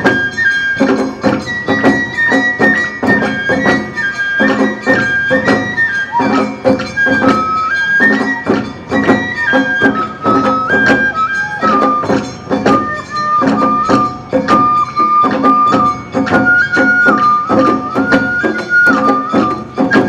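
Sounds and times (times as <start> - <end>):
bamboo flute melody: 0.0 - 20.0
drum beat: 0.0 - 20.0
metal percussion strikes: 0.0 - 20.0.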